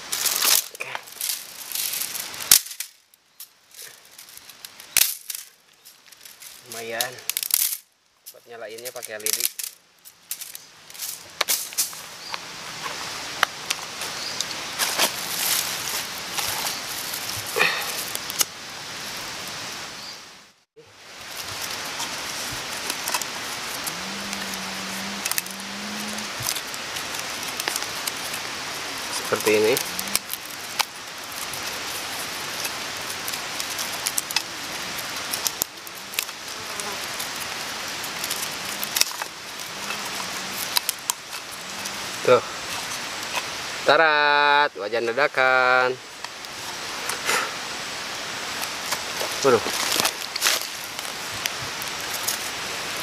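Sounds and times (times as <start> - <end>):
twigs rustling and snapping: 0.0 - 18.5, 21.0 - 43.6, 46.2 - 47.4, 48.2 - 53.0
crackly hiss: 0.0 - 53.0.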